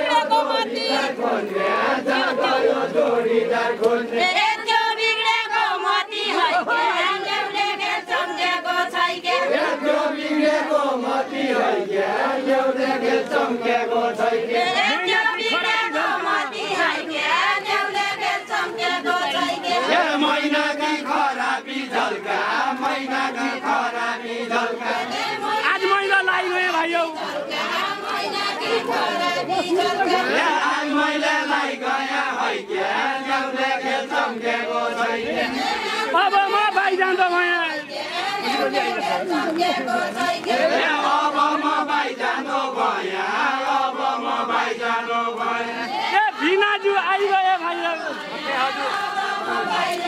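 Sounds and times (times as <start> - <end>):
men singing folk song together: 0.0 - 50.0.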